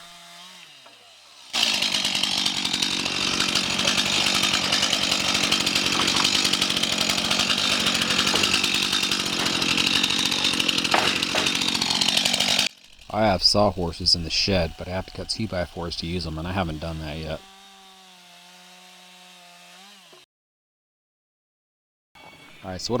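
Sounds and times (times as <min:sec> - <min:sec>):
chainsaw cutting wood: 0:00.0 - 0:20.3.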